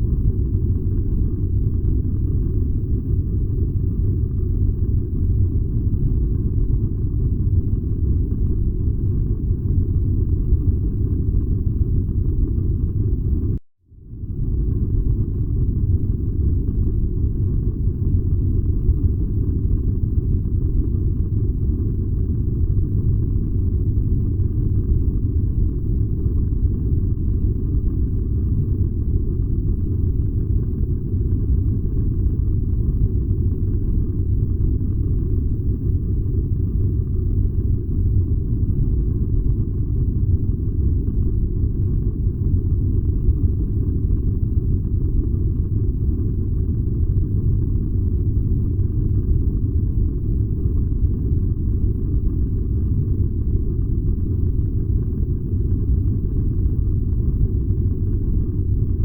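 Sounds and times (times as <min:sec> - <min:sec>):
furnace low rumble: 0:00.0 - 0:59.0.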